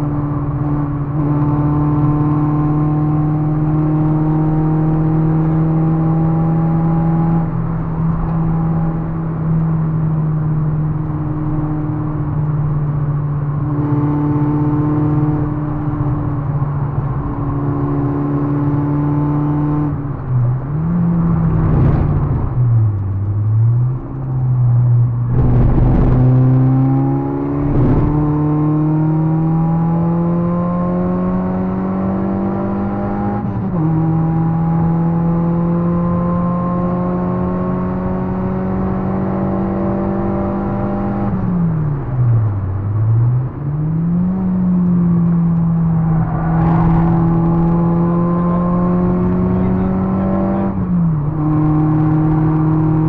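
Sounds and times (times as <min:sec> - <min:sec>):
car engine running hard: 0:00.0 - 0:53.0.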